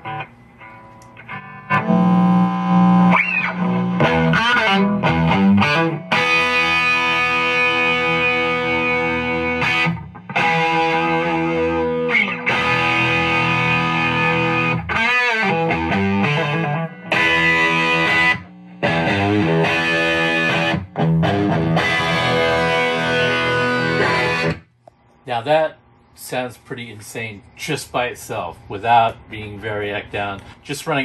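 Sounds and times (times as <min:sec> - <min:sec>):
distorted electric guitar: 0:00.0 - 0:25.2.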